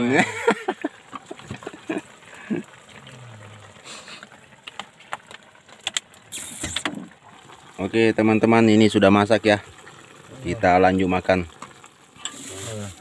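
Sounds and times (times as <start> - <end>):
broth simmering with small pops: 0.0 - 13.0.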